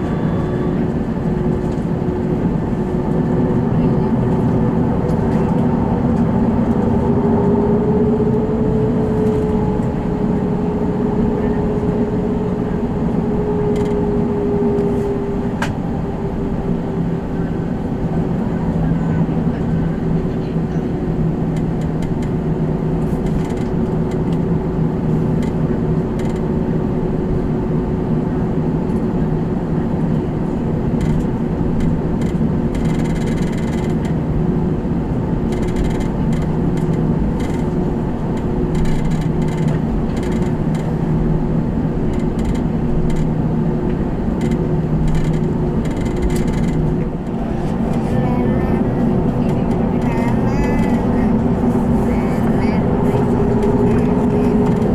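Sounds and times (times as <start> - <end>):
aircraft cabin engine hum: 0.0 - 54.9.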